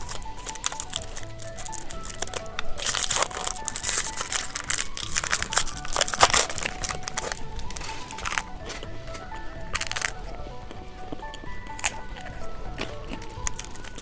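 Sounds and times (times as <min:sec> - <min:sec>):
plastic snack wrapper crinkling: 0:00.0 - 0:10.5, 0:11.2 - 0:14.0
light background music: 0:00.0 - 0:14.0.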